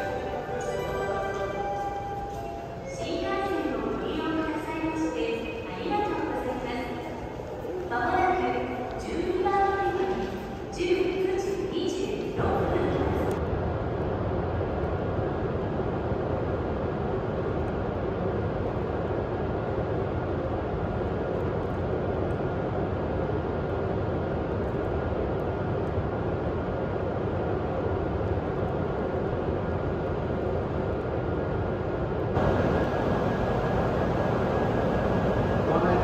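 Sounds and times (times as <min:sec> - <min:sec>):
stationary train whirring hum: 0:00.0 - 0:36.0.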